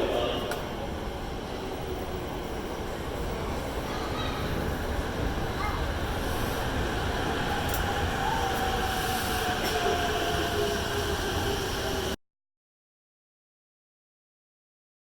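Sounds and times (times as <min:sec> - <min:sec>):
train rumbling: 0:00.0 - 0:12.2.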